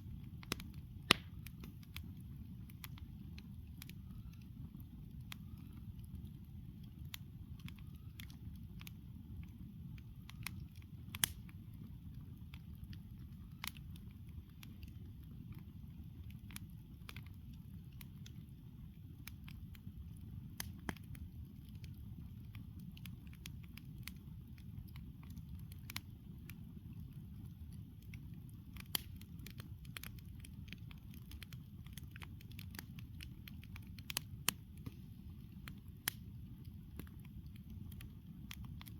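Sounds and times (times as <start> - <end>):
campfire crackling and popping: 0.0 - 38.9
low fire rumble: 0.0 - 38.9.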